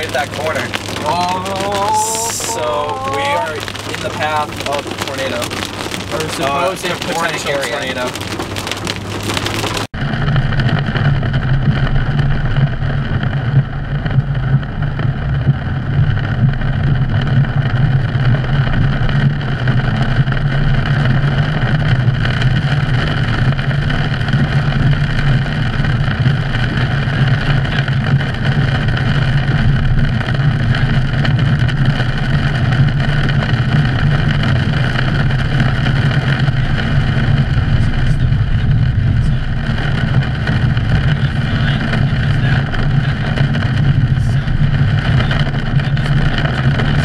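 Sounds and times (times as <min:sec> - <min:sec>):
car driving on a wet road: 0:00.0 - 0:47.0.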